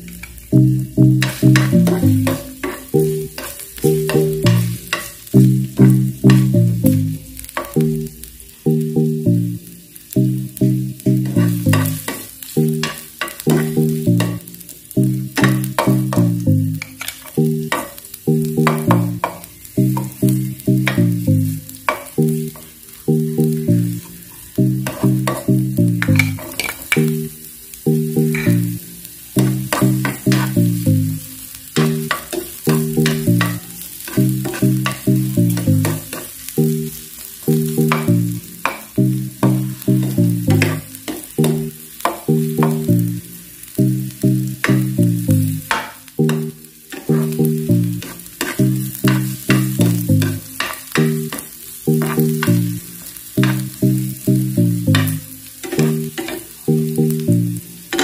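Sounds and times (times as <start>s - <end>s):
repeating background tune: 0.0s - 9.6s, 10.2s - 24.0s, 24.6s - 33.6s, 34.2s - 58.0s
vegetables sizzling in hot oil: 0.0s - 58.0s.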